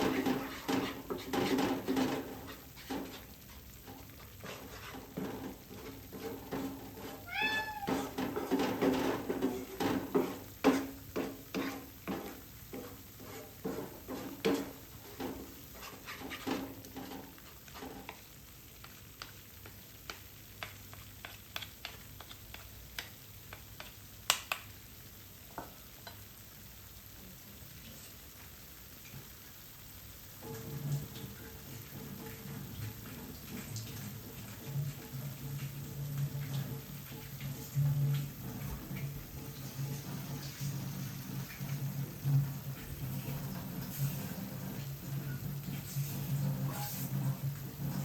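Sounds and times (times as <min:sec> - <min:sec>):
utensil scraping in a pan: 0:00.0 - 0:24.1, 0:30.3 - 0:48.0.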